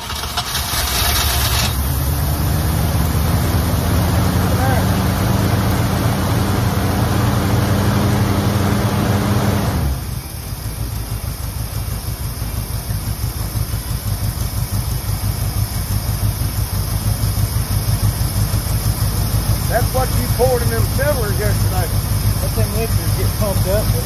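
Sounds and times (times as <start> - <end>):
car engine running and idling: 0.0 - 24.0.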